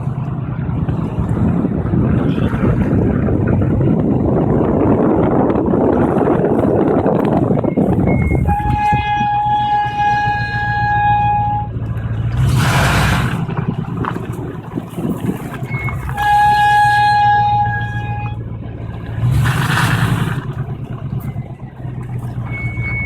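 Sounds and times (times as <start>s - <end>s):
brakes squealing: 0.0s - 23.0s
truck engine rumble: 0.0s - 23.0s.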